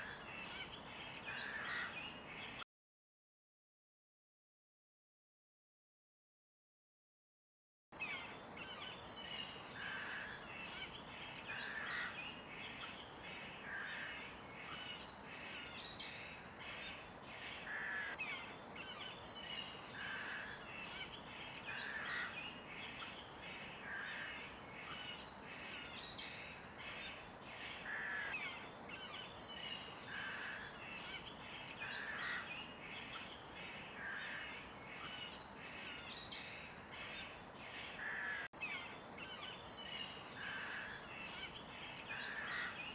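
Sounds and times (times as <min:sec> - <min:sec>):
songbirds chirping: 0:00.0 - 0:02.6, 0:08.0 - 0:42.9.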